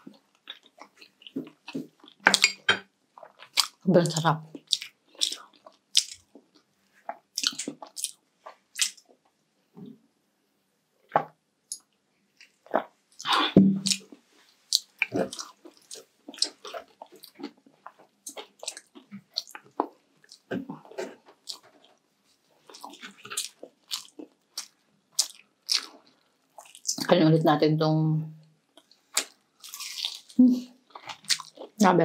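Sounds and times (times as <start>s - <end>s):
person chewing food: 0.0s - 3.8s, 4.5s - 9.4s, 11.1s - 27.0s, 28.6s - 31.8s.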